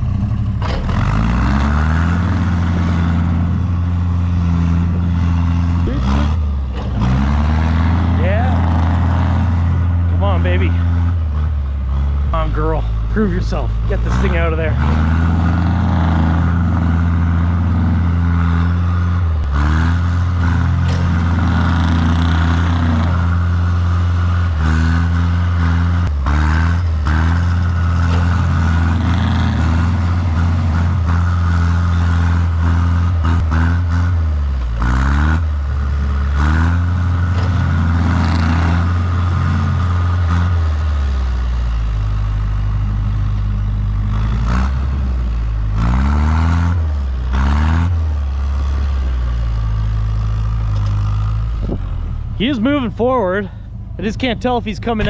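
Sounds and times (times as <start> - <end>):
diesel engine revving under load: 0.0 - 55.0.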